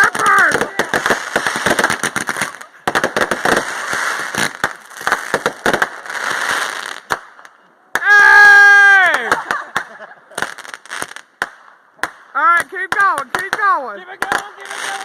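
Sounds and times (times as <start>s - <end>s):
fireworks cracking and popping: 0.0s - 8.2s, 9.0s - 15.0s.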